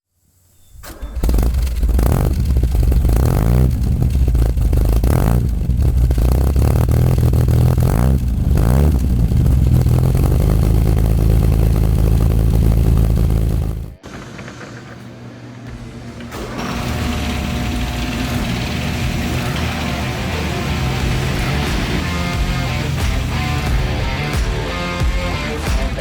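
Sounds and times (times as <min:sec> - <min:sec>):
car engine revving: 0:00.8 - 0:14.1, 0:15.8 - 0:26.0.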